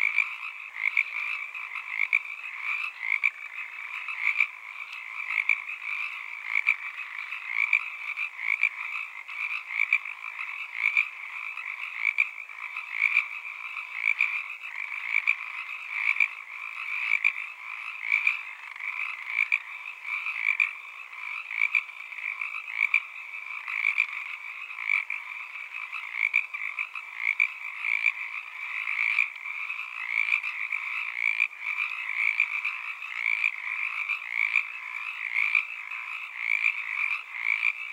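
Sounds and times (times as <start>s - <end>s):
frogs calling: 0.0s - 37.9s.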